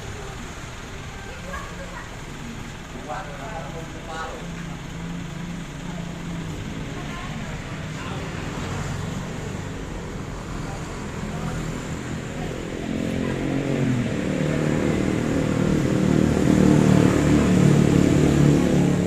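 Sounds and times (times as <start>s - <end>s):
motor vehicle engine running: 0.0s - 19.0s.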